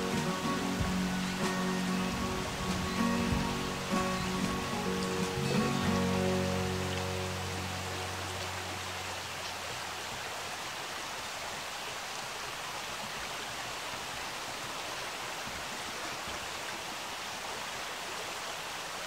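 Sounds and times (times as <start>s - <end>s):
stream running over rocks: 0.0s - 19.0s.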